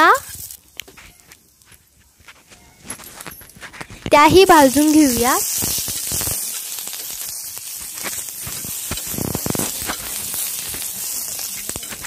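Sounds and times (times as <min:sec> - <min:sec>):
chillies sizzling on griddle: 0:00.0 - 0:12.0.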